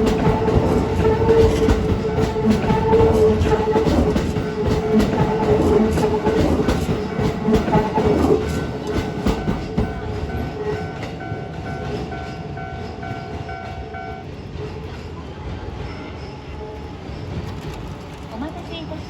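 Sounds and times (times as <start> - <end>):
level-crossing warning bell: 0.0 - 17.6
train humming: 0.0 - 19.0
train wheels clacking: 0.0 - 19.0.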